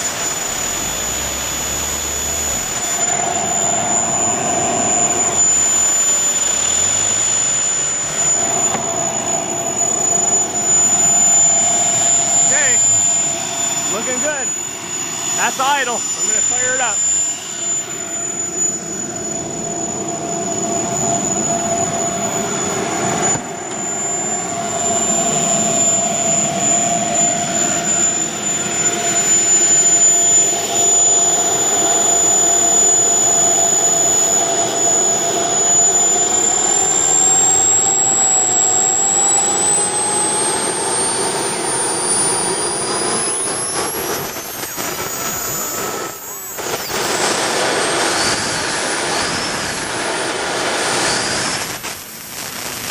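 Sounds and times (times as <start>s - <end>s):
jet turbine whine: 0.0s - 52.9s
turbine rushing roar: 0.0s - 52.9s.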